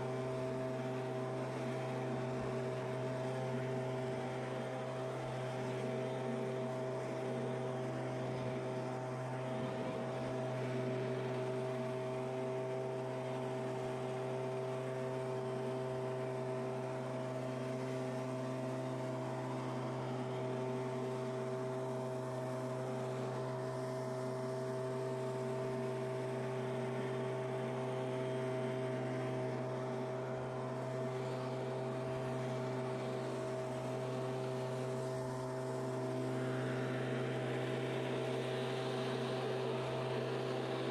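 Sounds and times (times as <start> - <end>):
leaf blower running: 0.0 - 40.9.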